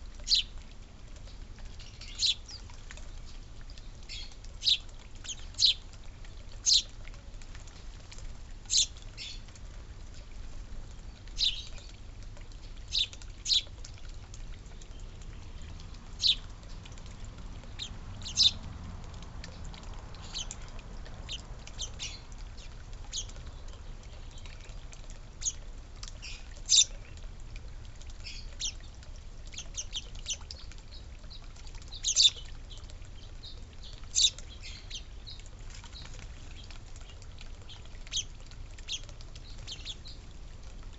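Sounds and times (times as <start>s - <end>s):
faint low background rumble: 0.0s - 40.9s
small birds chirping: 0.2s - 0.6s, 1.2s - 7.0s, 8.6s - 9.6s, 10.9s - 27.3s, 28.2s - 40.4s.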